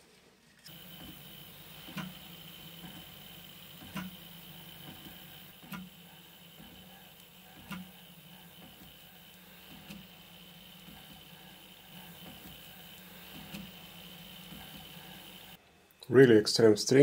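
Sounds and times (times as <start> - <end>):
printer motors and fans humming: 0.7 - 15.6.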